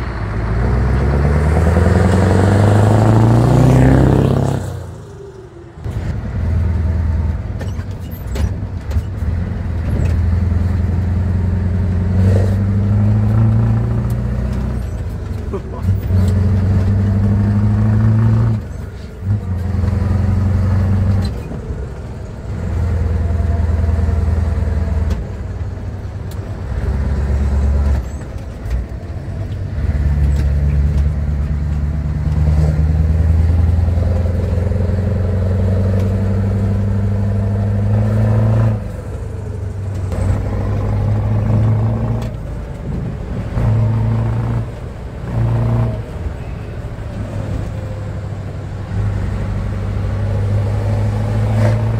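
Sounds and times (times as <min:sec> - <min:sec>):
truck engine under throttle: 0:00.0 - 0:51.9.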